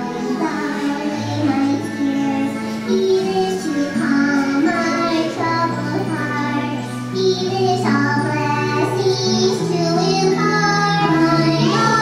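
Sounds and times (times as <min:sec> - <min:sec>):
instrumental accompaniment: 0:00.0 - 0:12.0
person singing: 0:00.0 - 0:12.0.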